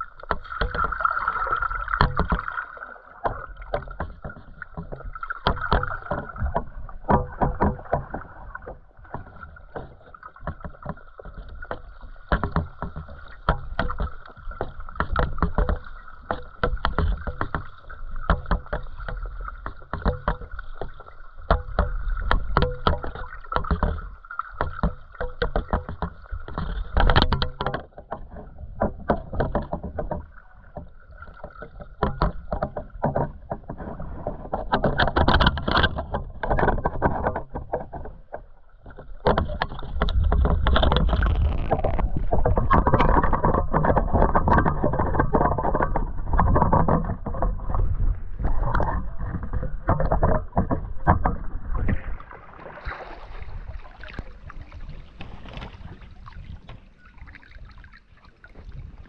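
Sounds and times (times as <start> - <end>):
underwater knocks and clicks: 0.0 - 59.0
water rumbling underwater: 0.0 - 59.0.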